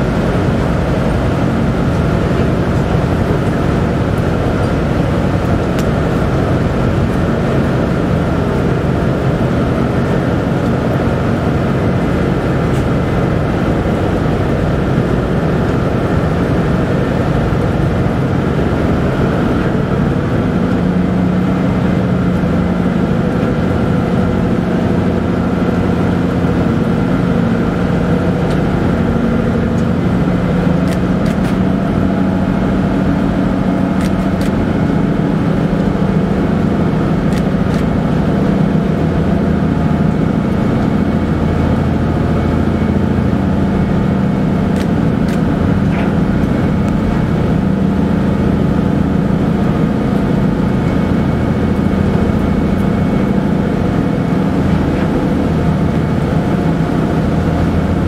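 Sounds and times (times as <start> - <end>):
ship engines droning: 0.0 - 58.0.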